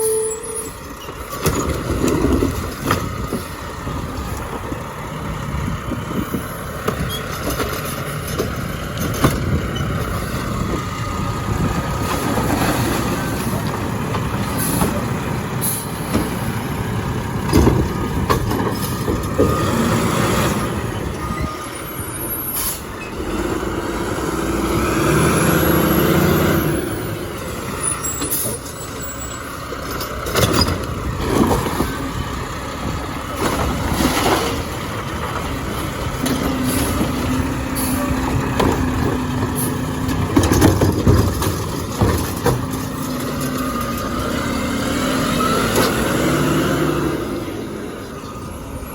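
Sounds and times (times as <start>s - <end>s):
garbage truck running: 0.0s - 48.9s.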